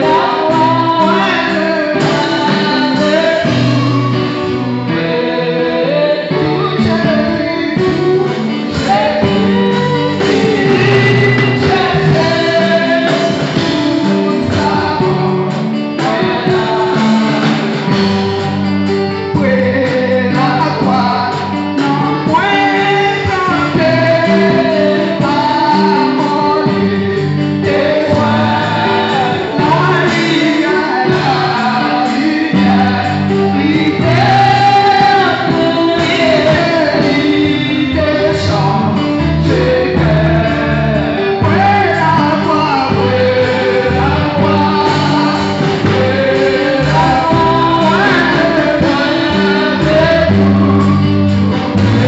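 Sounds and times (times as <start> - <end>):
backing singers: 0.0 - 52.0
instrumental accompaniment: 0.0 - 52.0
woman singing a hymn: 0.0 - 52.0.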